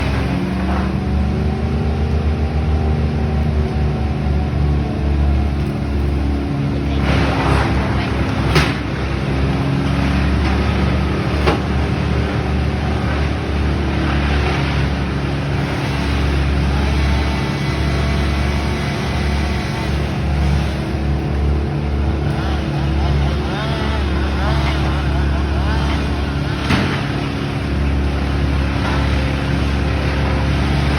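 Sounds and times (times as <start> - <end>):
motor engine running: 0.0 - 30.9.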